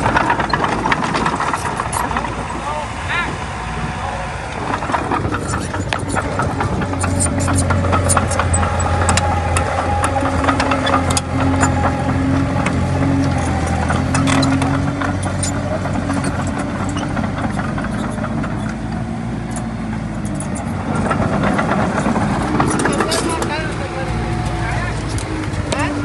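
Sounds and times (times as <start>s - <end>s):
metallic clicks and clanks: 0.0s - 2.5s, 4.5s - 26.0s
bulldozer diesel engine running: 0.0s - 26.0s.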